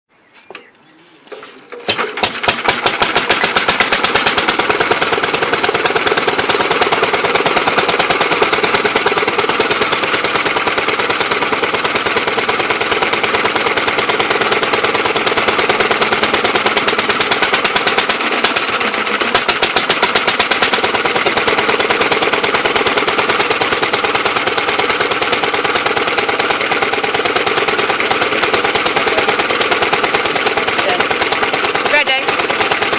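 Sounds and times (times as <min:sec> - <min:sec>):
stationary engine running: 0:01.9 - 0:32.9.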